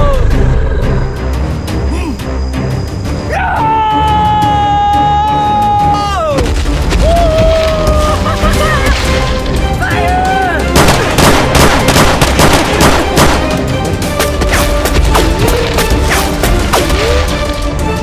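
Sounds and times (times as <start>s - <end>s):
action film music: 0.0s - 18.0s.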